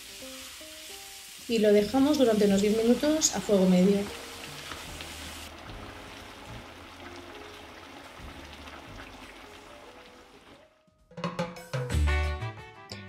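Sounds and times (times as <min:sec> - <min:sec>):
stew bubbling in a pan: 0:00.0 - 0:10.6.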